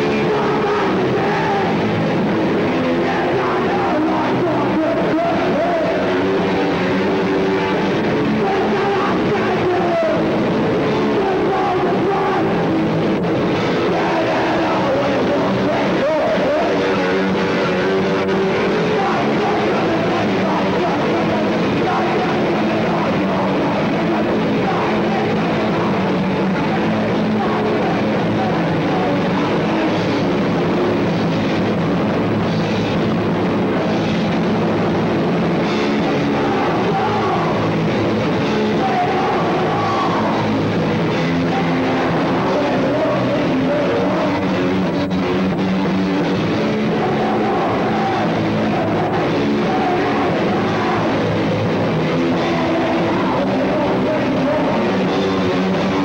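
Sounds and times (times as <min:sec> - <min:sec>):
person singing: 0:00.0 - 0:31.1, 0:33.7 - 0:56.0
drum kit: 0:00.0 - 0:56.0
electric guitar: 0:00.0 - 0:56.0.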